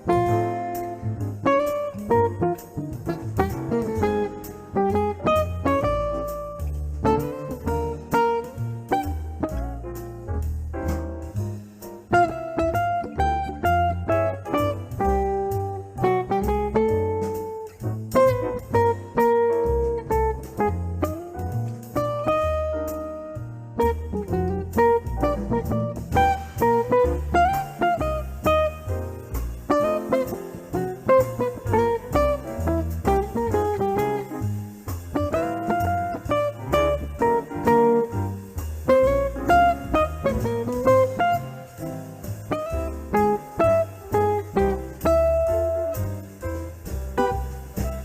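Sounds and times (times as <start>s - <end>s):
bass line: 0.0s - 48.0s
jazz guitar melody: 0.0s - 48.0s.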